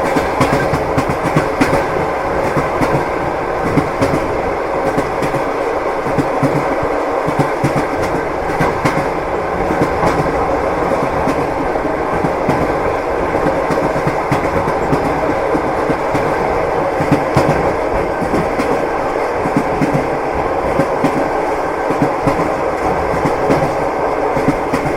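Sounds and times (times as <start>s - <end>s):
electric train rumbling: 0.0s - 24.9s
wheels clattering on rails: 0.0s - 24.9s.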